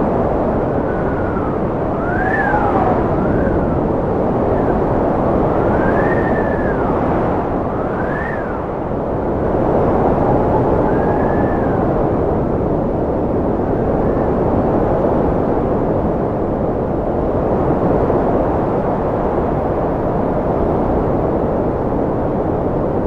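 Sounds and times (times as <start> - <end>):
wind blowing with whistling: 0.0 - 23.0.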